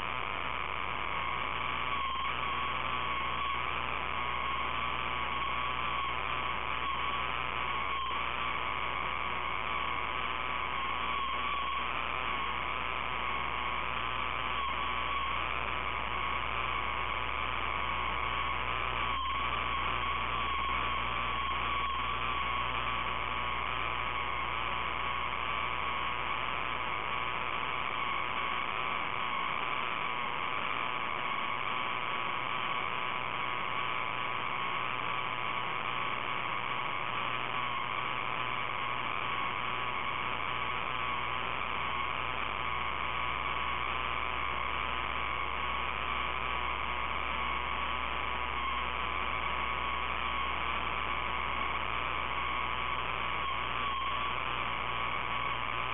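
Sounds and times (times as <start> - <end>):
electrical hum and hiss: 0.0 - 55.9
wavering high whine: 0.0 - 55.9.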